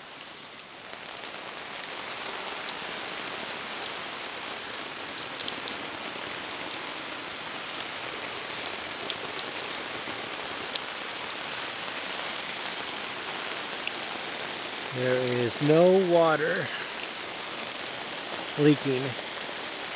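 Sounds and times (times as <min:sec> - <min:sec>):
water spraying on tarp: 0:01.2 - 0:19.9.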